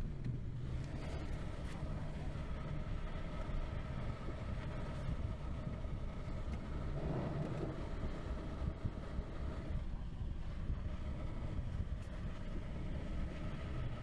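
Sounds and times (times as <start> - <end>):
road and tyre rumble in car cabin: 0.0 - 14.0.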